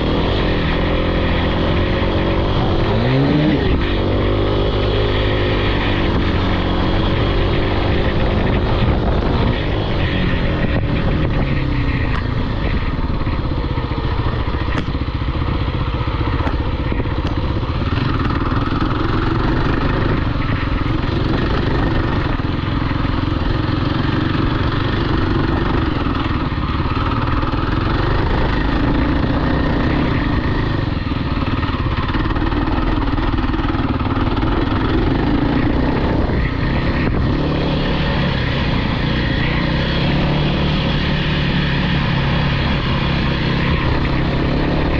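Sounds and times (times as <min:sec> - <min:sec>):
off-road vehicle engine revving: 0:00.0 - 0:14.9, 0:16.3 - 0:44.9.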